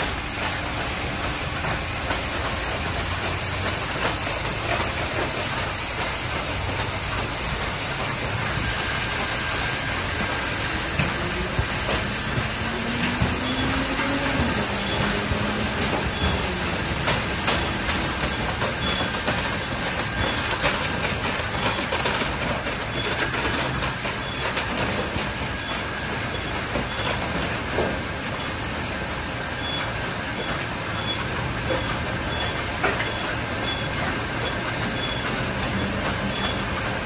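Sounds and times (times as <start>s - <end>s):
spraying water: 0.0s - 37.0s.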